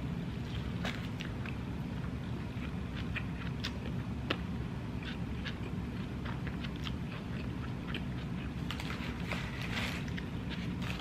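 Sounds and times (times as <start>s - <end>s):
steady low hum: 0.0s - 11.0s
person chewing food: 0.4s - 11.0s.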